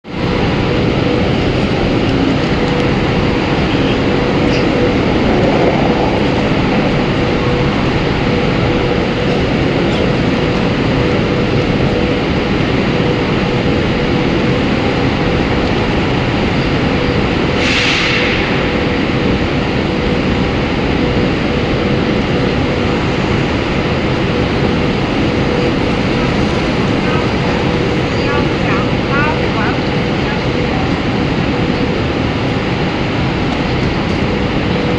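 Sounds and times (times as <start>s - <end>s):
high-speed train running: 0.0s - 34.9s
faint constant hum: 0.1s - 34.9s.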